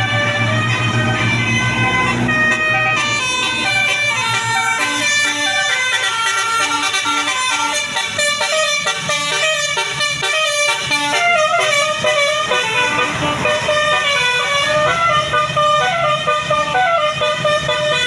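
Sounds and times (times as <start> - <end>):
multi-tone bus horn melody: 0.0 - 18.0.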